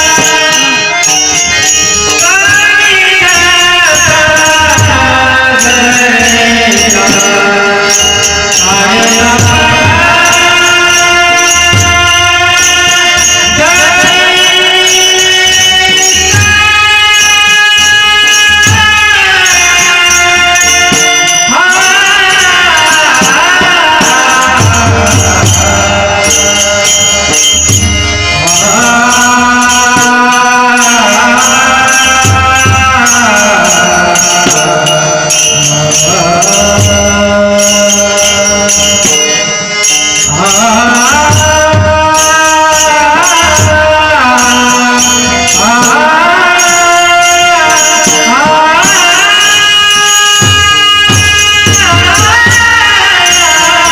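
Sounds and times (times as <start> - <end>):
jingling percussion: 0.0 - 53.9.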